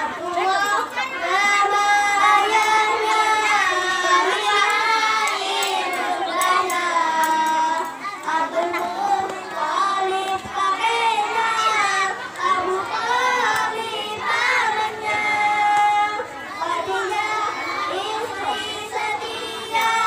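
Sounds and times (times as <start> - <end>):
boy chanting into a microphone: 0.0 - 20.0.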